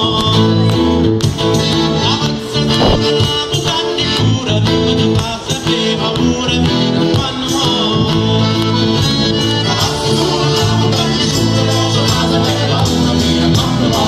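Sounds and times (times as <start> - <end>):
accordion: 0.0 - 14.0
acoustic guitar: 0.0 - 14.0
folk band playing through speakers: 0.0 - 14.0.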